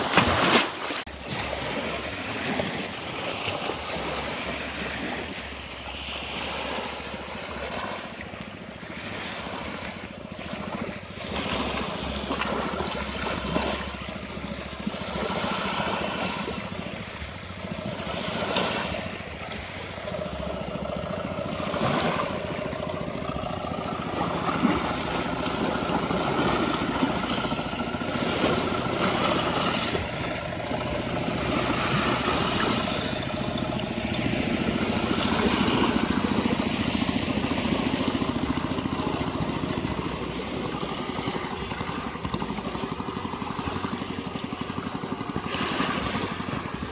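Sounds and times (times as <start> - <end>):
steady motor hum: 0.0 - 46.9
waves: 0.0 - 46.9.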